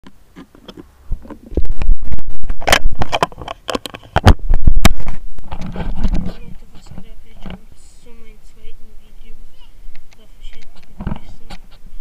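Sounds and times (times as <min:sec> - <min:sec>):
handling noise on phone microphone: 0:00.1 - 0:08.8, 0:09.9 - 0:12.0.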